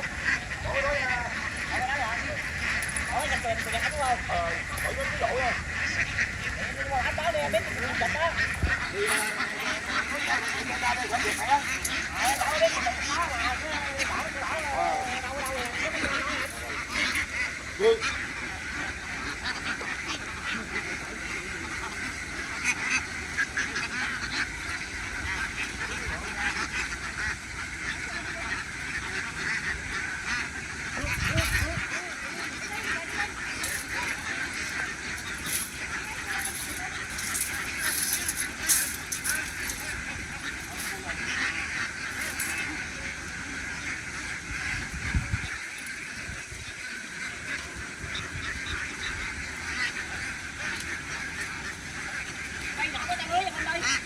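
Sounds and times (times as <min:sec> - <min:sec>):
ducks quacking: 0:00.0 - 0:54.0.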